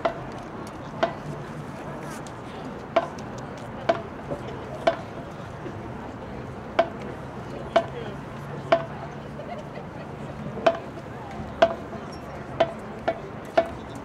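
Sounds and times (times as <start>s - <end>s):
background murmur: 0.0s - 14.0s.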